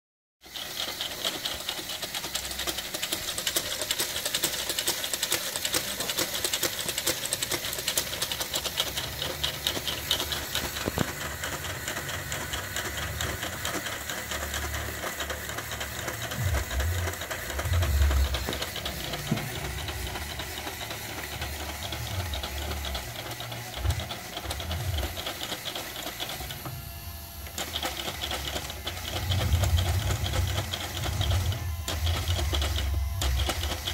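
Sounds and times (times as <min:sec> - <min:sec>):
clatter of plastic parts and gearing: 0:00.5 - 0:26.7, 0:27.6 - 0:33.9.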